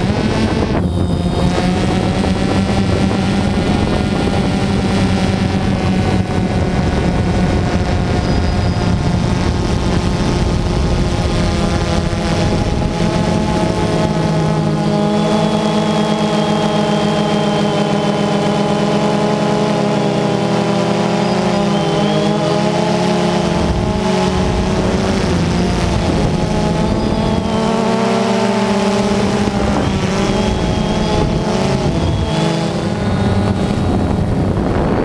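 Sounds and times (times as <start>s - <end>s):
drone propellers buzzing: 0.0s - 35.0s
wind rush on microphone: 0.0s - 35.0s.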